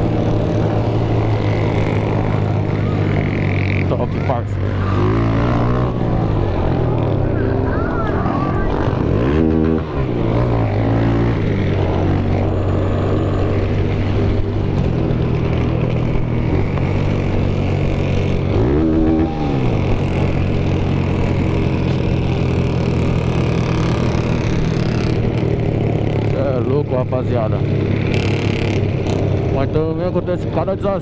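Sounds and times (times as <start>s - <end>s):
motorcycle engine revving: 0.0s - 31.0s
motorcycles idling: 0.0s - 31.0s.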